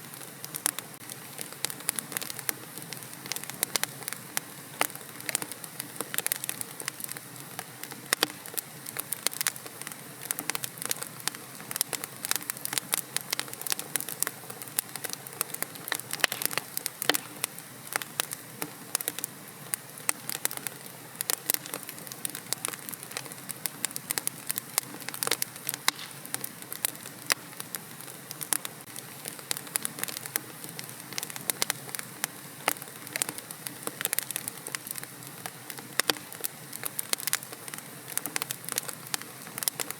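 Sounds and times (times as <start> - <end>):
fireplace fire crackling and popping: 0.0 - 39.9
soft steady hiss: 0.0 - 39.9.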